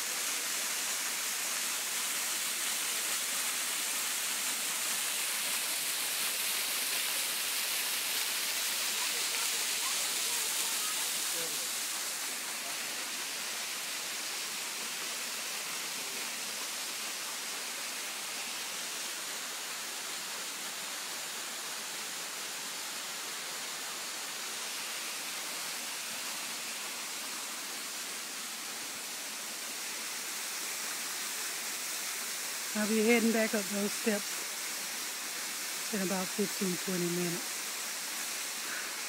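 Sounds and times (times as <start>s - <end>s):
waterfall rushing over rocks: 0.0s - 39.0s.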